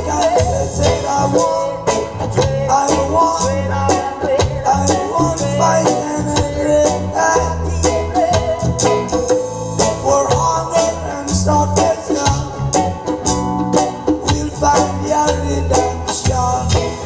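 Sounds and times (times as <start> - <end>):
deep bass line: 0.0 - 17.0
guitar: 0.0 - 17.0
keyboard: 0.0 - 17.0.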